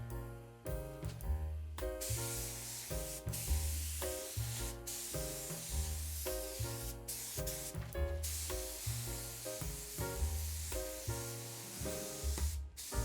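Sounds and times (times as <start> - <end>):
background music with beat: 0.0 - 13.0
paint spray gun hissing: 2.0 - 13.0.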